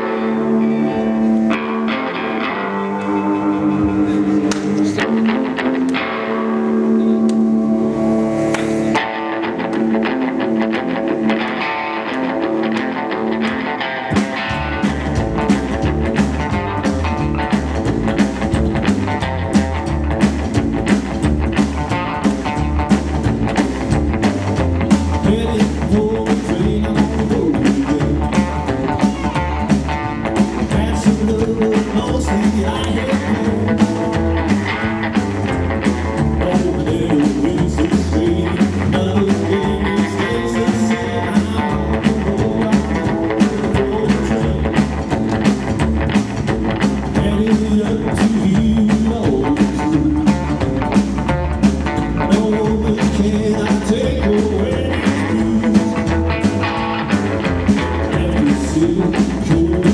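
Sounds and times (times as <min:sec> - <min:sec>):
rockabilly band playing: 0:00.0 - 0:59.9.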